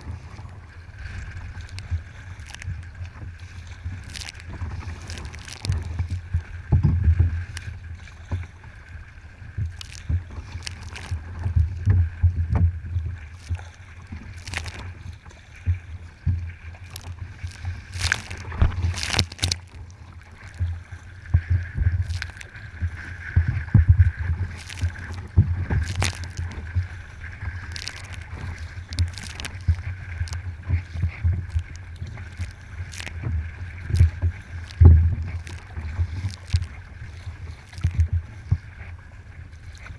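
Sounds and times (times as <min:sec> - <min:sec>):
paddle splashing in water: 0:00.0 - 0:39.9
water slapping against hull: 0:00.0 - 0:39.9.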